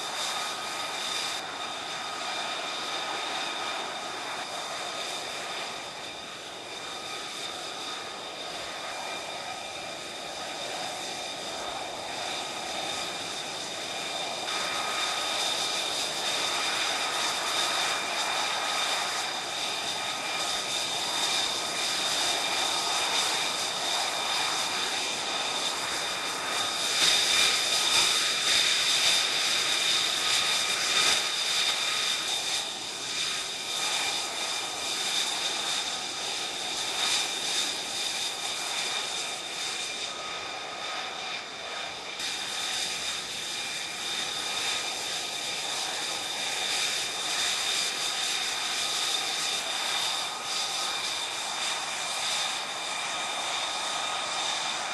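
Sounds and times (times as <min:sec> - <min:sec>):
jet engine whine and roar: 0:00.0 - 0:54.9.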